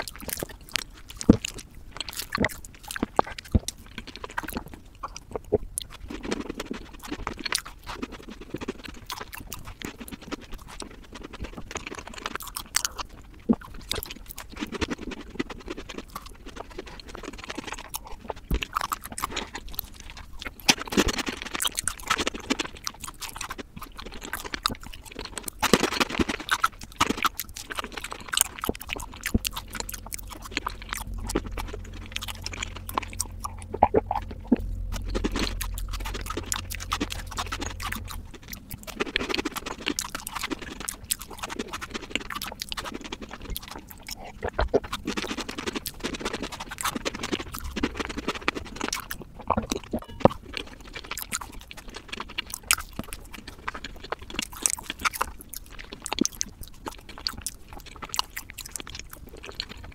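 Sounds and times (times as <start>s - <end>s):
person chewing close-up: 0.0s - 59.9s.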